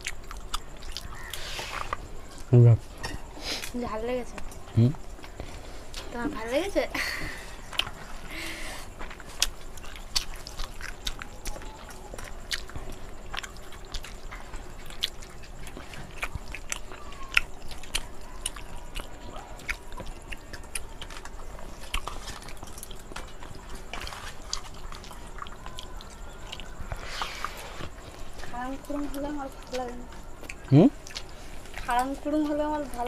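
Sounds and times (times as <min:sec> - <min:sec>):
people chewing: 0:00.0 - 0:33.0.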